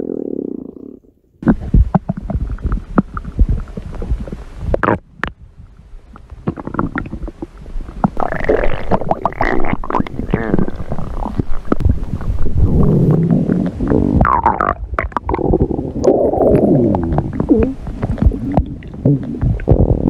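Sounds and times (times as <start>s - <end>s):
stomach growling and gurgling: 0.0s - 5.4s, 6.0s - 20.0s.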